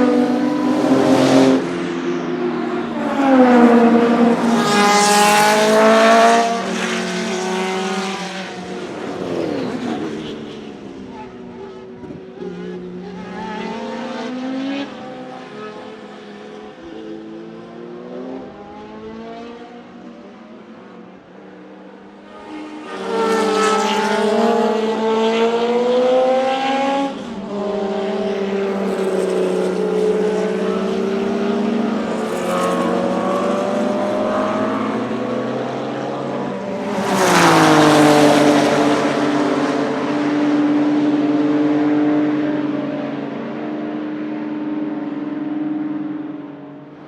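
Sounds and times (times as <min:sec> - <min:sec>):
race car passing: 0:00.0 - 0:47.0.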